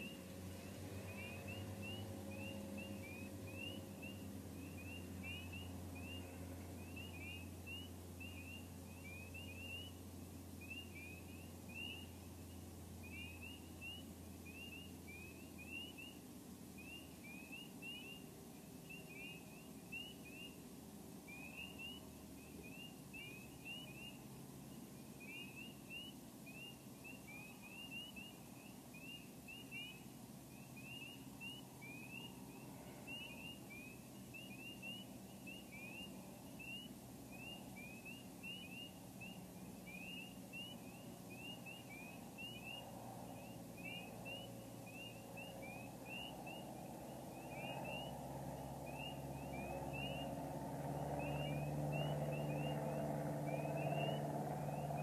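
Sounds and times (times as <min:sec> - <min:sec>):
faint low rumble: 0:00.0 - 0:55.0
frogs peeping: 0:00.0 - 0:55.0.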